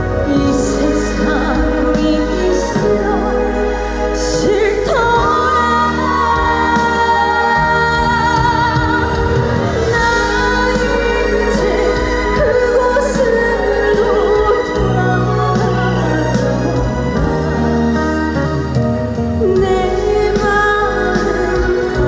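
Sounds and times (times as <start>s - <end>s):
band backing music: 0.0s - 22.0s
woman singing: 0.0s - 22.0s.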